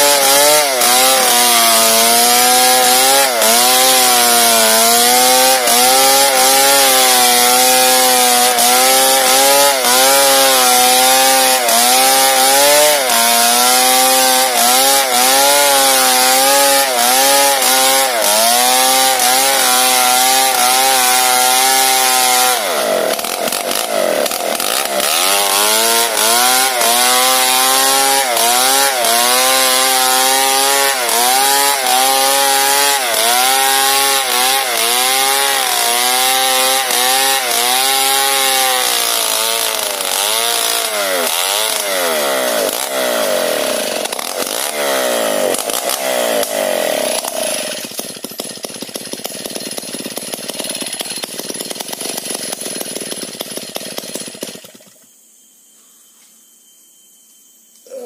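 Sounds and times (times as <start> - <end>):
chainsaw ripping a log: 0.0 - 55.0.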